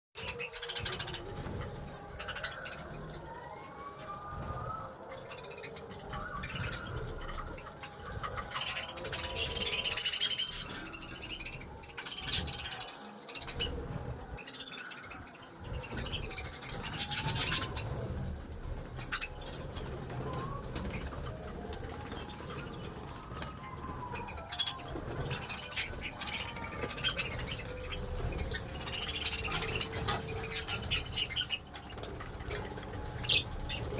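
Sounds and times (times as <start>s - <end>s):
cage birds chirping and chattering: 0.2s - 33.9s.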